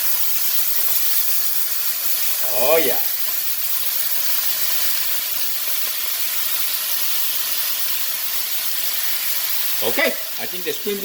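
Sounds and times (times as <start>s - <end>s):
beans sizzling in a hot pan: 0.0s - 11.0s.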